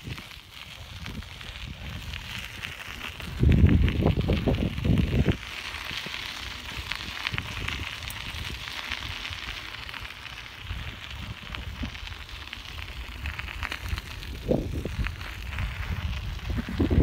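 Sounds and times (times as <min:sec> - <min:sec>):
bicycle tyres crunching on gravel: 0:00.0 - 0:17.0.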